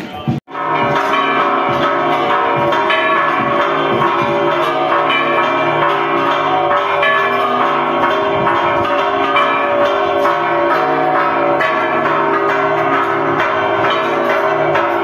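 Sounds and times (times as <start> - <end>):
church bells ringing: 0.5 - 15.0.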